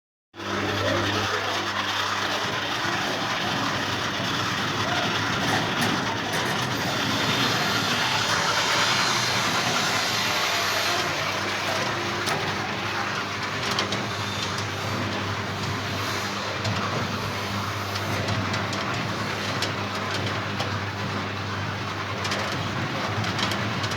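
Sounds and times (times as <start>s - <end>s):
motor hum: 0.4s - 23.9s
clatter of fruit in machine: 0.5s - 23.9s.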